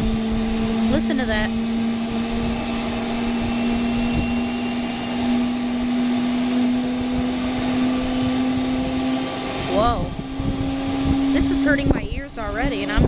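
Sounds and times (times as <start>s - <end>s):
jet engine whine: 0.0s - 13.0s.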